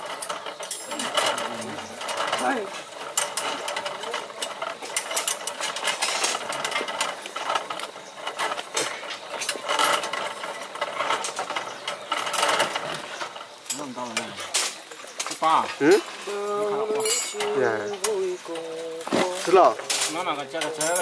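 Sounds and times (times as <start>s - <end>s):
construction clattering and scraping: 0.0s - 21.0s.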